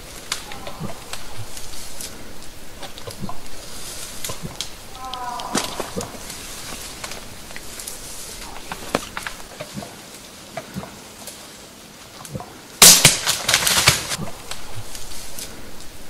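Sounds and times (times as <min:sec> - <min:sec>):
loud burst of rustling brush: 0:00.0 - 0:10.4, 0:12.8 - 0:16.0
dry leaves and twigs cracking: 0:00.0 - 0:16.0.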